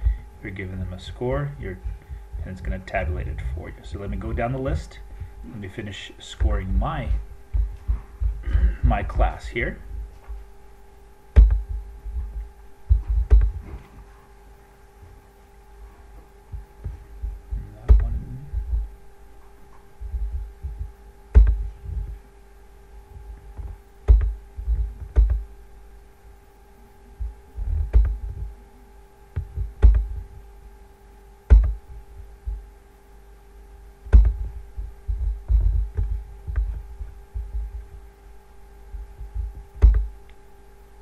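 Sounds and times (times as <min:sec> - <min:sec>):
electrical hum: 0:00.0 - 0:41.0.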